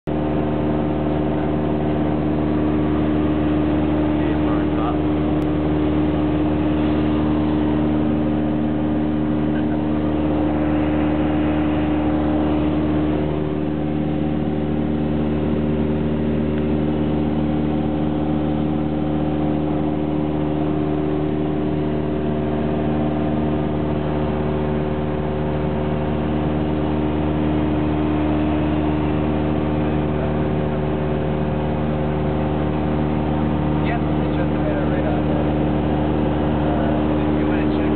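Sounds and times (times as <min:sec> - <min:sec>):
aircraft engine and propeller: 0:00.0 - 0:37.9.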